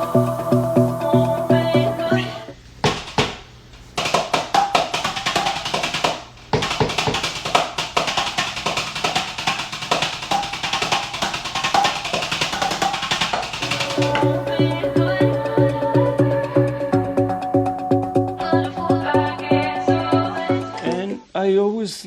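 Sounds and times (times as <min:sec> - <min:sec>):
music with fast percussion beat: 0:00.0 - 0:20.8.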